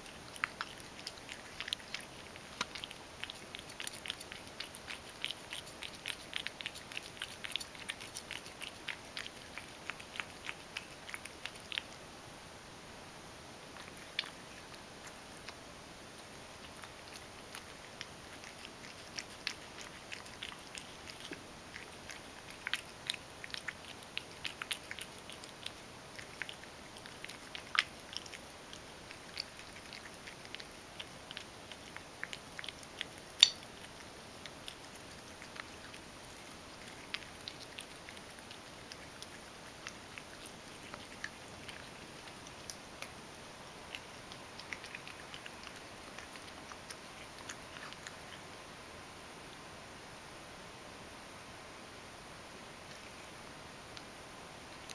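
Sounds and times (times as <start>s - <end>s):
cat chewing food: 0.0s - 12.1s, 13.6s - 49.7s, 52.8s - 54.9s.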